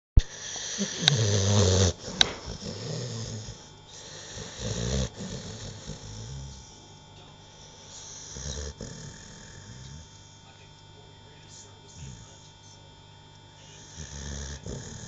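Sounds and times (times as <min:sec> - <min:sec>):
dog snoring: 0:00.2 - 0:10.7, 0:11.5 - 0:15.0.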